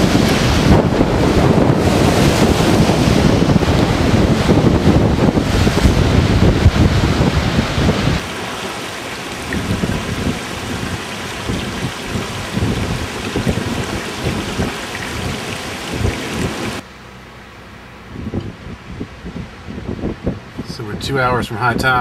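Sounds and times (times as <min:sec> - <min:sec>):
wind buffeting microphone: 0:00.0 - 0:16.8, 0:18.0 - 0:22.0
rush of wind and water: 0:00.0 - 0:16.9, 0:18.0 - 0:22.0.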